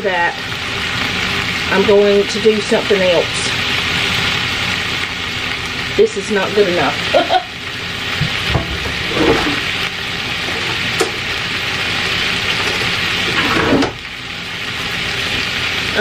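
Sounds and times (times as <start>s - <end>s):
meat and vegetables sizzling: 0.0s - 16.0s.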